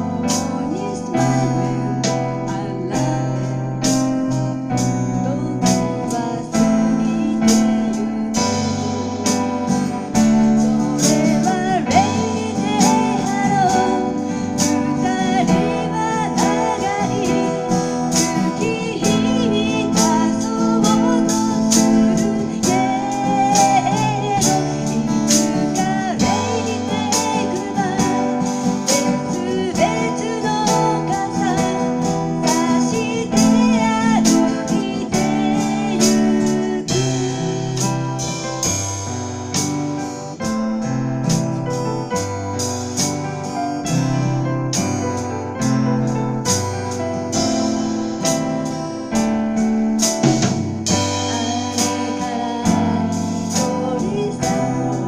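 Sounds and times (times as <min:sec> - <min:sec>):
person singing: 0:00.0 - 0:39.8, 0:50.0 - 0:55.0
acoustic guitar strumming: 0:00.0 - 0:55.0
keyboard accompaniment: 0:00.0 - 0:55.0.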